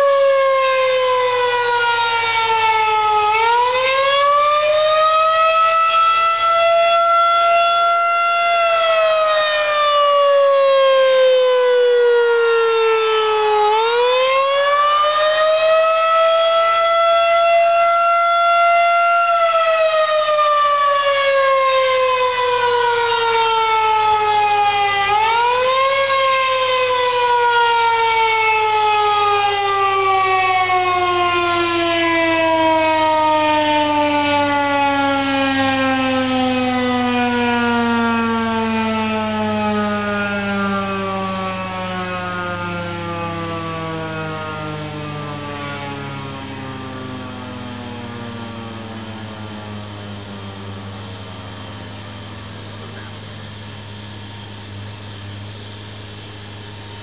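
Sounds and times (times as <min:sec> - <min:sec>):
tornado siren rising and falling: 0:00.0 - 0:57.0.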